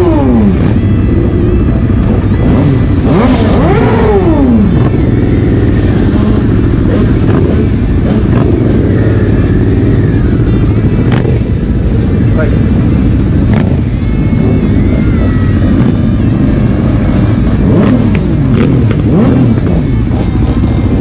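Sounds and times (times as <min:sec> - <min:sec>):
motorcycle engines revving: 0:00.0 - 0:21.0
music playing: 0:00.0 - 0:21.0.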